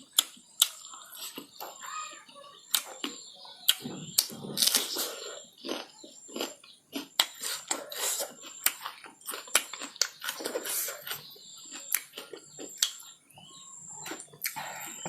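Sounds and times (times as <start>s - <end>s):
person chewing: 0.0s - 1.9s, 2.6s - 15.0s.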